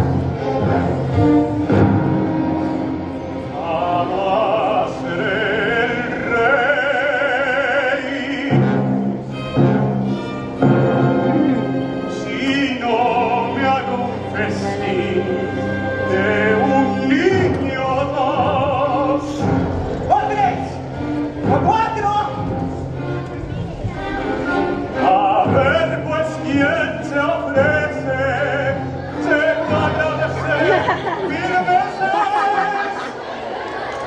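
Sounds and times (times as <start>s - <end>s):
orchestra sustained chords: 0.0s - 33.4s
operatic singing with vibrato: 0.0s - 33.9s.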